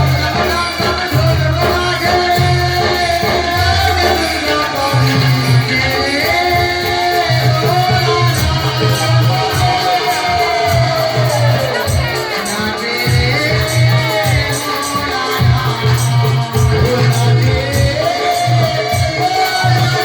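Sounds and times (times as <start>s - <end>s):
person singing over music: 0.0s - 20.0s.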